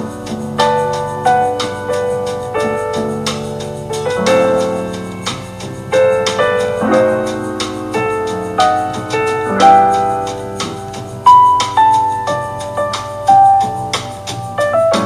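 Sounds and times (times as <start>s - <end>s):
relaxed jazz piano: 0.0s - 15.0s.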